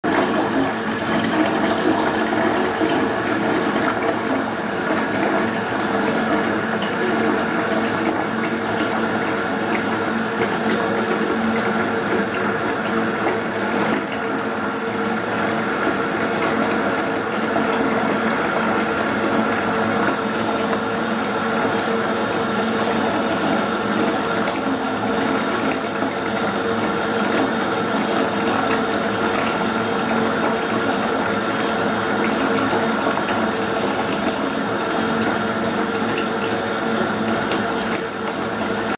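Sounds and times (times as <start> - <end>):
water running into bathtub: 0.0 - 38.9.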